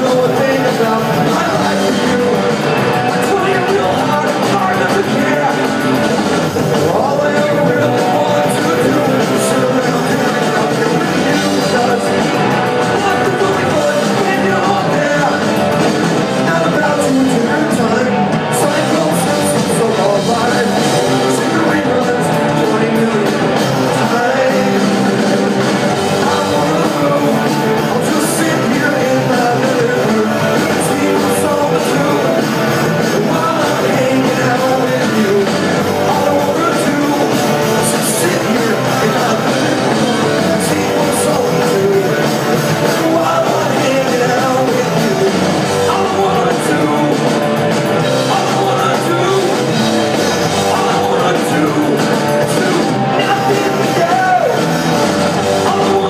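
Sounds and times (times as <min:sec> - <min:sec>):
lead vocal singing: 0:00.0 - 0:56.0
live punk rock band: 0:00.0 - 0:56.0.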